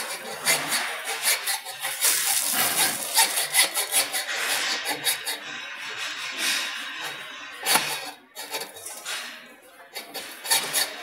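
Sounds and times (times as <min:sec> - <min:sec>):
hacksaw sawing through metal: 0:00.0 - 0:11.0.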